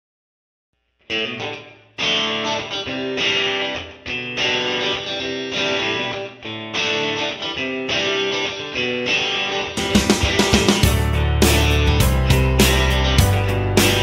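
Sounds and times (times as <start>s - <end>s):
rhythmic guitar chords: 1.0s - 14.0s.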